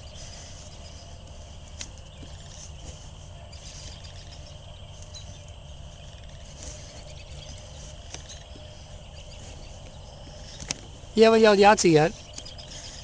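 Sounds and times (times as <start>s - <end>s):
insects chirping: 0.0s - 13.0s
low steady hum: 0.0s - 13.0s.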